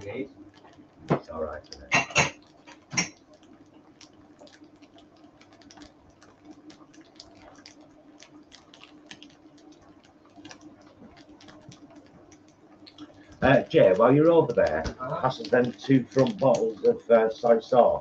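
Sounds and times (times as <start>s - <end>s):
oil crackling in frying pan: 0.0s - 17.8s
faint steady hum: 0.0s - 18.0s.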